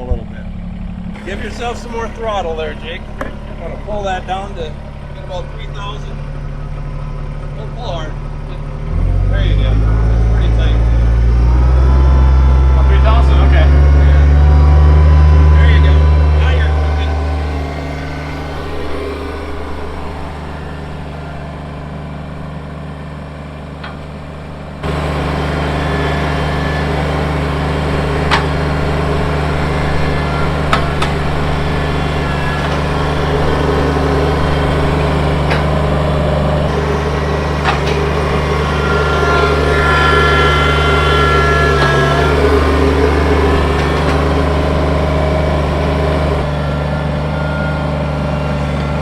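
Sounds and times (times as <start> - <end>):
diesel tractor engine running: 0.0 - 49.0.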